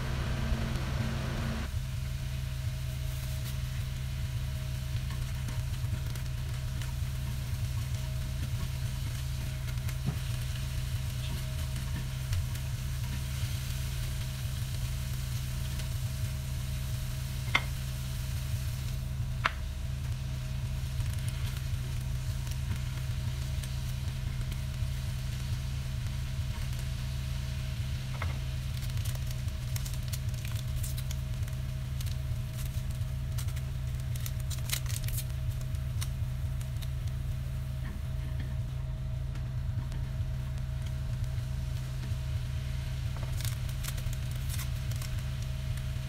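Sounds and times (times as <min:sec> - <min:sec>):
fat crackling and popping: 0:00.0 - 0:01.8, 0:03.4 - 0:46.0
chicken sizzling in a frying pan: 0:00.0 - 0:46.0
low hum: 0:00.0 - 0:46.0.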